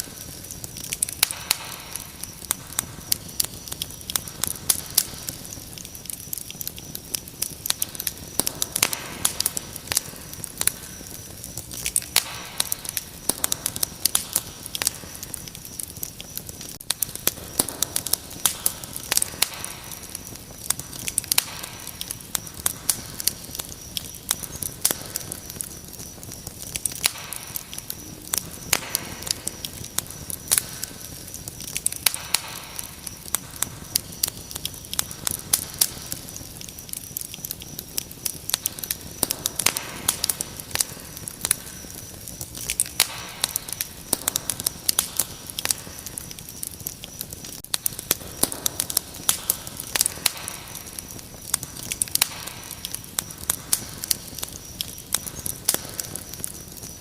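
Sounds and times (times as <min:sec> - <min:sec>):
crickets trilling: 0:00.0 - 0:57.0
wood fire crackling: 0:00.0 - 0:57.0.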